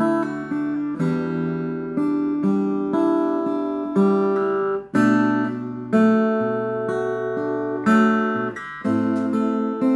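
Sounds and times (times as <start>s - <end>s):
guitar chords strummed: 0.0s - 9.9s.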